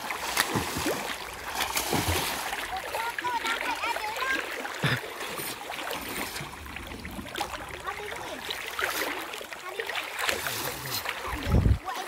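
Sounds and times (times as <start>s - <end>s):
water flowing: 0.0s - 12.0s.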